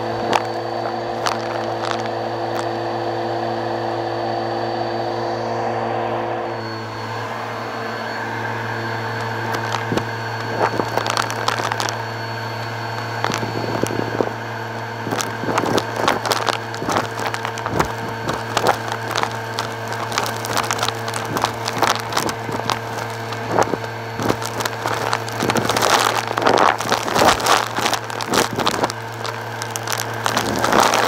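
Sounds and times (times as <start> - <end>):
debris rattling up a hose: 0.0 - 3.0, 8.8 - 31.0
vacuum cleaner motor hum: 0.0 - 31.0.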